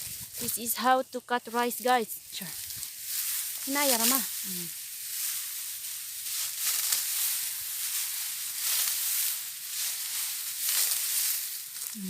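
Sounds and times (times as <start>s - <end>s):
dry stalks cut with a blade: 1.8s - 12.0s.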